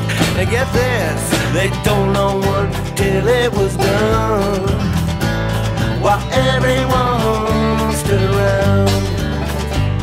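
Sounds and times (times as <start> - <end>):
acoustic folk band playing: 0.0 - 10.0.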